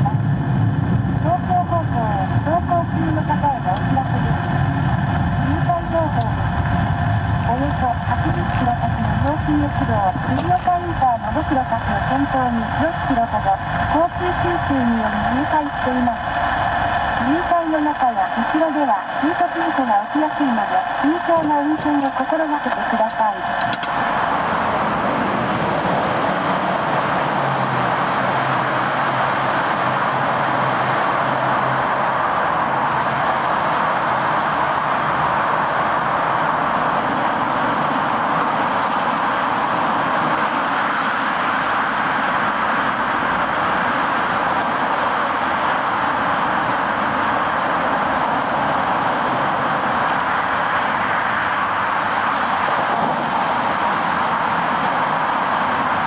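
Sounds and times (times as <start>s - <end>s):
highway traffic rushing: 0.0s - 56.0s
vehicle engine hum: 0.0s - 56.0s.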